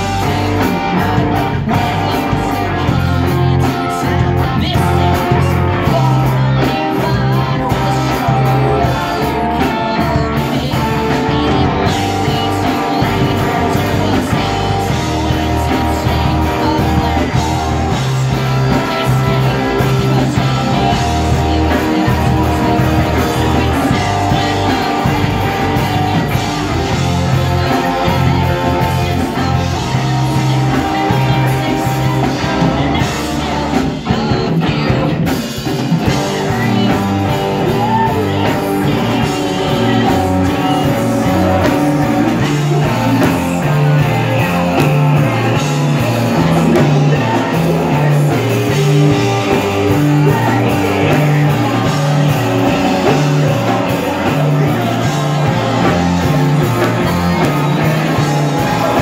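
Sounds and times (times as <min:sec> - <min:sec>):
bass guitar: 0:00.0 - 0:59.0
drum kit: 0:00.0 - 0:59.0
electric guitars: 0:00.0 - 0:59.0
person singing into microphone: 0:00.0 - 0:59.0.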